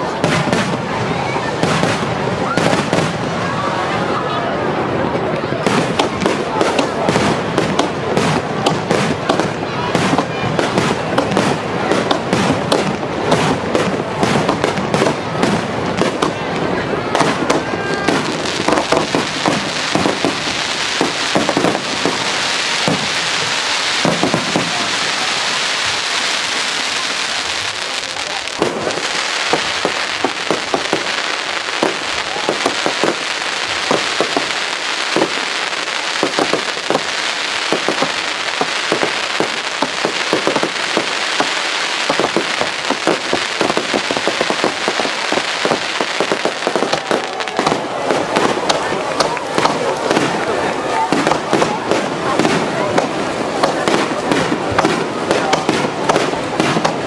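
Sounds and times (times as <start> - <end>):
firework bangs: 0.0 - 57.0
firework crackling: 0.0 - 57.0.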